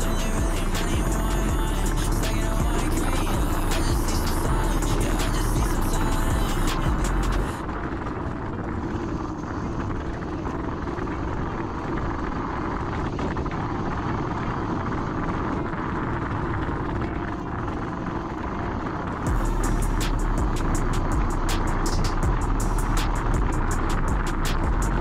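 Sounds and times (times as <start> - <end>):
rushing wind: 0.0 - 25.0
scooter road noise: 0.0 - 25.0.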